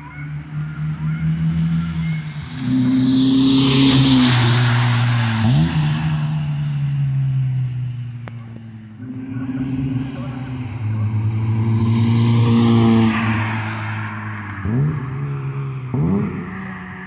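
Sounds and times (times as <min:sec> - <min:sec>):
car engine revving: 0:00.0 - 0:17.0
car exhaust driving past: 0:00.5 - 0:17.0.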